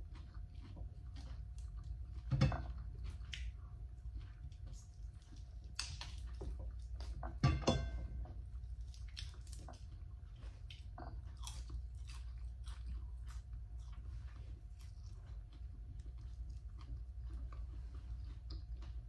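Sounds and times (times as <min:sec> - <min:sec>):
chewing and biting meat: 0:00.0 - 0:07.4, 0:08.1 - 0:19.0
faint steady hum: 0:00.0 - 0:19.0.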